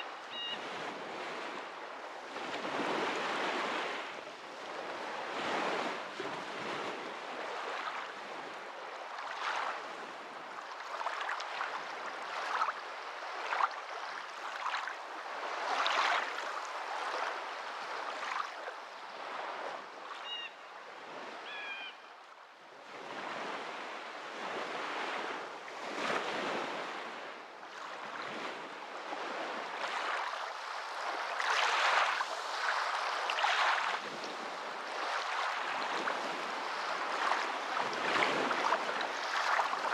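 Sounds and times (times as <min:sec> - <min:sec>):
waves washing and breaking: 0:00.0 - 0:21.5, 0:22.7 - 0:39.9.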